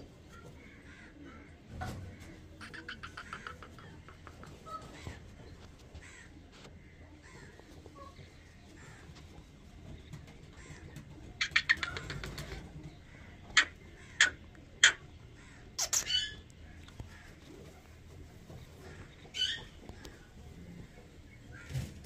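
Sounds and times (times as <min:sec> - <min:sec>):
harsh bird calls: 0:00.2 - 0:22.0.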